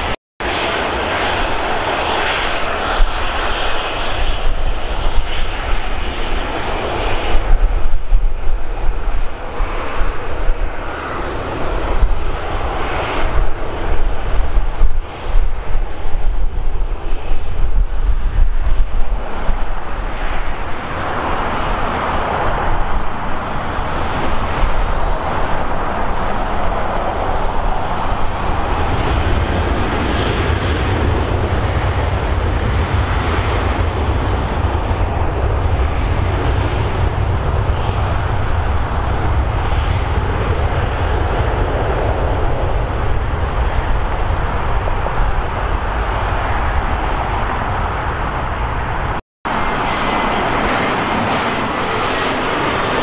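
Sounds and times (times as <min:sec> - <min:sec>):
jet engine rumble: 0:00.0 - 0:53.0.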